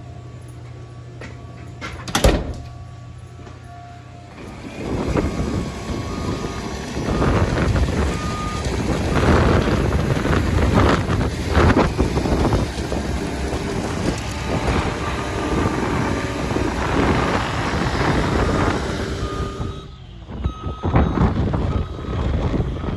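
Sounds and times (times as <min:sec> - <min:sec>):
heavy vehicle engine running: 0:02.0 - 0:22.9
wind buffeting microphone: 0:04.4 - 0:22.9.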